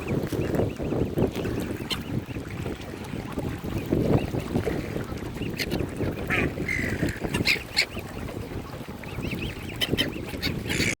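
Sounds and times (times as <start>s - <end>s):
waterfowl calling: 0.0s - 3.0s, 3.6s - 11.0s.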